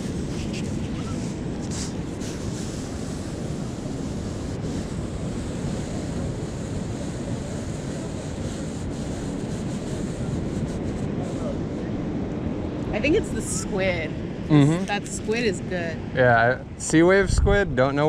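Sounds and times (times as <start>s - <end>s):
ocean surf: 0.0s - 16.2s
wind buffeting microphone: 0.0s - 18.0s.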